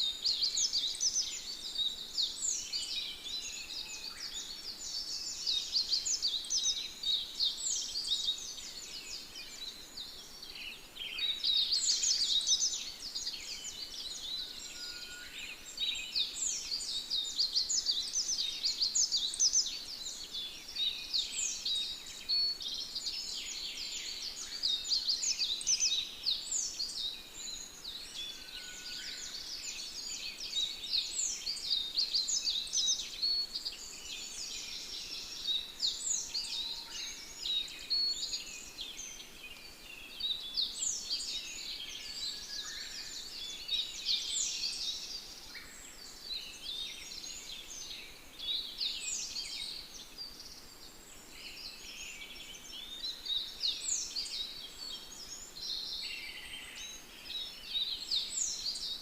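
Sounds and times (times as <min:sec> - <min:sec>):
chorus of small birds chirping: 0:00.0 - 0:59.0.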